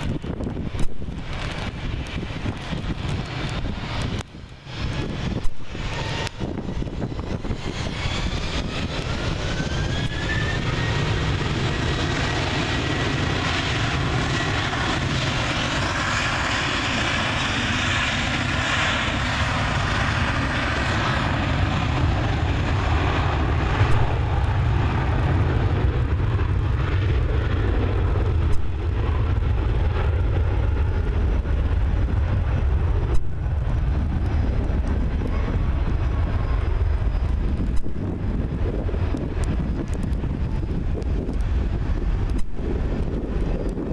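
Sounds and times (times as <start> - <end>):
jet engines roaring on takeoff: 0.0 - 43.9.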